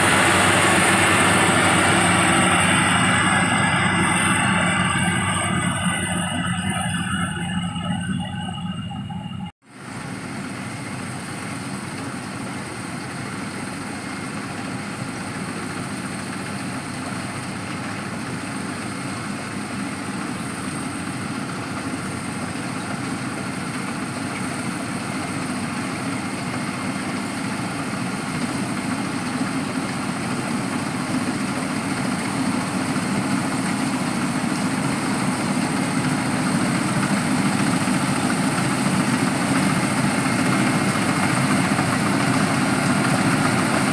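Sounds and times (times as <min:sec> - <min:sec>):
harvester engine running: 0:00.0 - 0:43.9.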